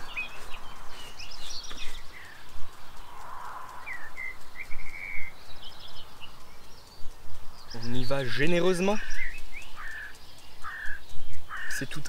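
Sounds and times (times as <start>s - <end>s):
bird trill: 0.0s - 12.0s
songbirds singing and chirping: 0.0s - 12.0s.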